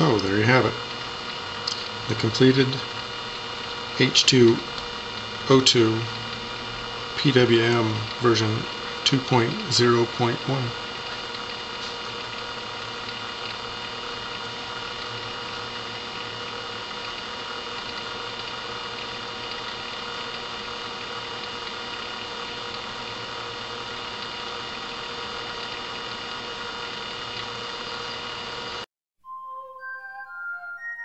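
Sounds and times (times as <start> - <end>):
background hum and hiss: 0.0 - 28.8.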